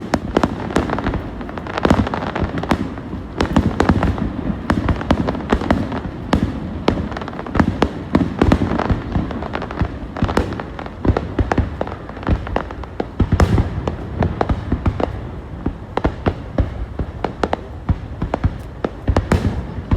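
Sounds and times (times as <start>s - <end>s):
fireworks bangs and crackles: 0.0s - 19.9s.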